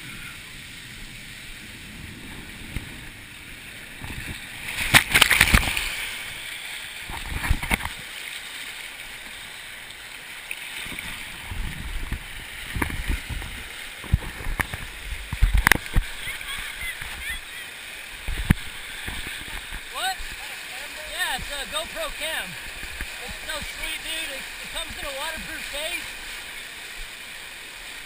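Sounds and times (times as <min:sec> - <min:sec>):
water bursts: 0:00.0 - 0:28.0
water running and sloshing: 0:01.7 - 0:28.0.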